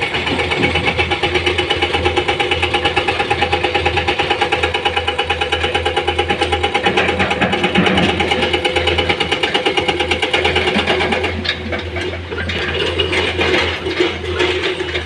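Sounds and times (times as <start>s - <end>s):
knocks and clatters: 0.0s - 3.1s, 5.0s - 15.0s
diesel engine clattering: 0.0s - 15.0s.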